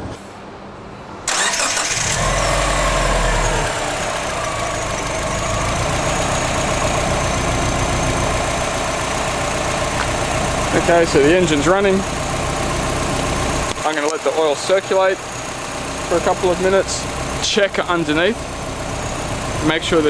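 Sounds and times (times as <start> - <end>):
car engine starting and idling: 1.3 - 20.0.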